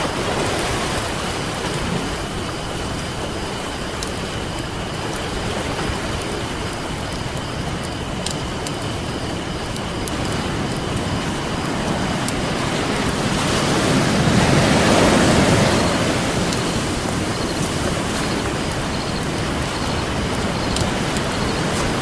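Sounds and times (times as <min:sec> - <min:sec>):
ocean surf washing in: 0:00.0 - 0:22.0
campfire crackling: 0:01.7 - 0:22.0.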